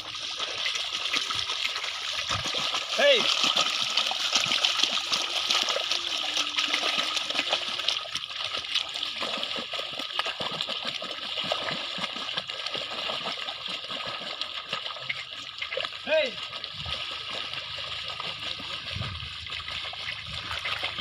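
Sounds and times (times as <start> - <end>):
water and mud splashing: 0.0 - 21.0.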